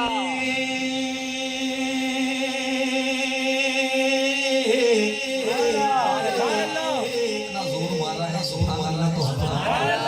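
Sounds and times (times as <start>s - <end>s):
person reciting: 0.0s - 10.0s.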